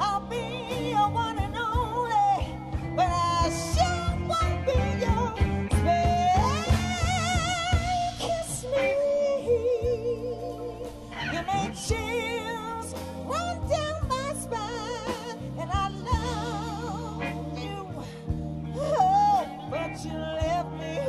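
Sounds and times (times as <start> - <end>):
live blues band: 0.0 - 21.0
woman singing wordless lines: 0.0 - 21.0.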